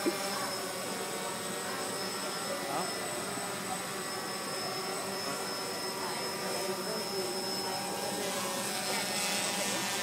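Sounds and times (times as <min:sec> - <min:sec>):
drone rotors buzzing: 0:00.0 - 0:10.0.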